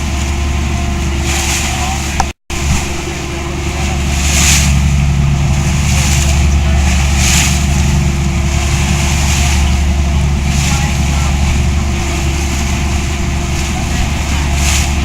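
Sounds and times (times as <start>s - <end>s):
boat engine humming: 0.0s - 15.0s
water washing past: 0.0s - 15.0s.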